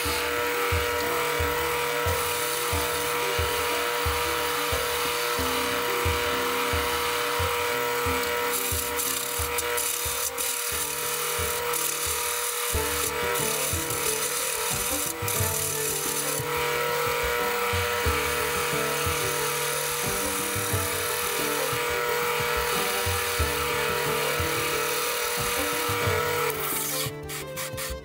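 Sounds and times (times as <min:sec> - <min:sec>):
background music: 0:00.0 - 0:28.0
lathe motor hum: 0:00.0 - 0:28.0
tool shaving wood hiss: 0:00.0 - 0:28.0.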